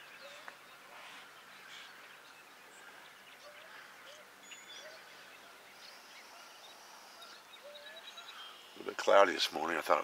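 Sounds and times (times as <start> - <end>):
birds chirping and whistling: 0.0 - 8.9
low upturned bird calls: 0.0 - 9.0.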